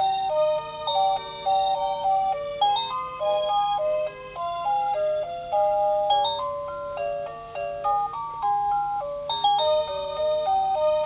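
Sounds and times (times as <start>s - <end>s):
electronic clock melody: 0.0s - 11.0s.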